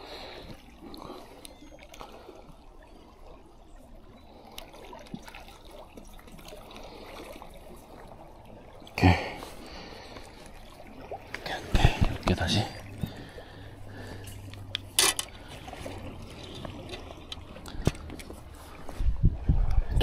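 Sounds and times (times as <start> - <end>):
seawater lapping on rocks: 0.0 - 20.0.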